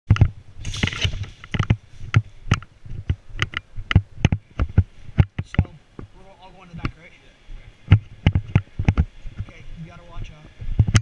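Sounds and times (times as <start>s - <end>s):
rustling: 0.1s - 11.0s.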